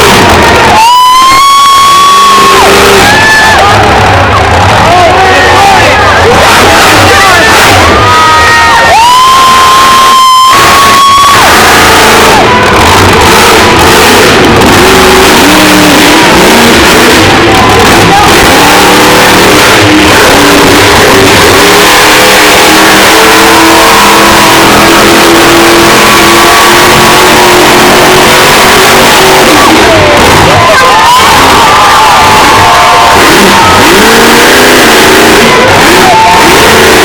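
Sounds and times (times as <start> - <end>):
monster truck engine revving: 0.0 - 37.0.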